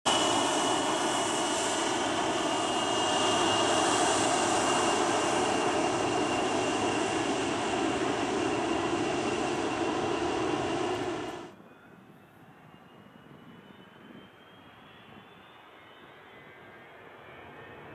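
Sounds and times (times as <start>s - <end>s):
jet engine roar with whine: 0.1s - 17.9s.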